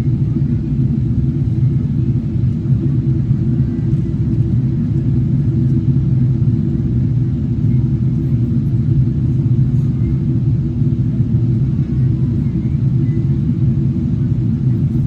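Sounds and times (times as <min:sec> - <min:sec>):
airliner rumble: 0:00.0 - 0:15.0.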